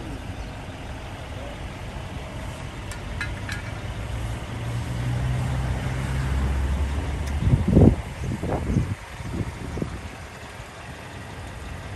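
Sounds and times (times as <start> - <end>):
vehicle engine idling: 0.0 - 11.9.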